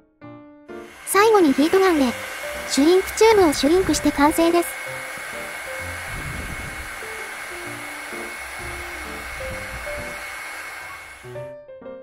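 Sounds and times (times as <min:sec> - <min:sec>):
soft background music: 0:00.0 - 0:12.0
heat gun blowing: 0:00.7 - 0:11.4.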